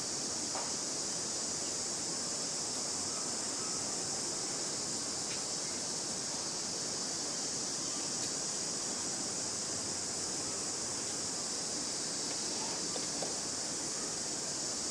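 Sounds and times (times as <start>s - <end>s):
steady high-pitched hiss: 0.0s - 14.9s.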